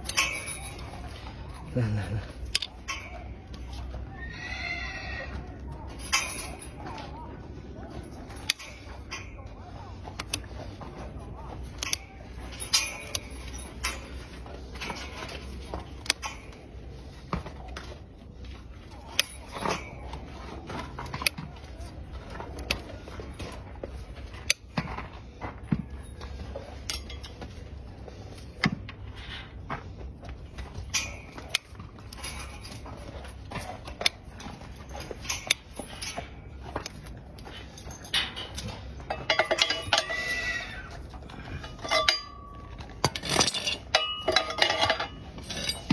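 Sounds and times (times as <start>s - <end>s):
metallic clicks and scrapes on hoof: 0.0s - 45.9s.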